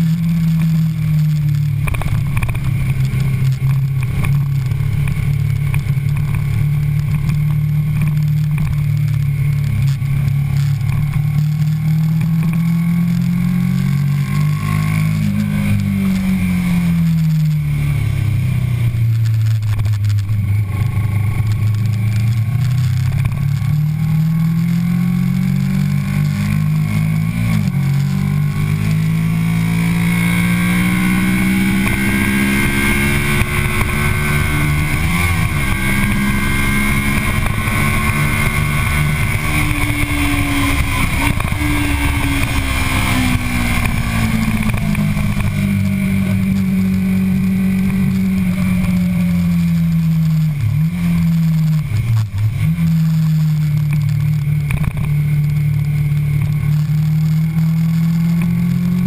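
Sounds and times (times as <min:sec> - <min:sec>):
motorcycle engine pulling hard: 0:00.0 - 0:59.0.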